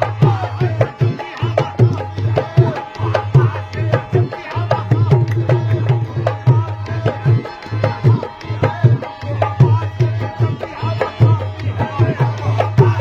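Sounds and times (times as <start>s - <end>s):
hand drum fast rhythm: 0.0s - 13.0s.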